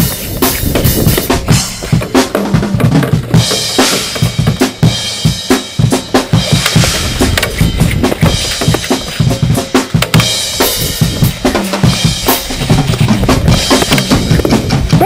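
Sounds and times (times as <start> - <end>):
music with drum-kit beat: 0.0 - 15.0.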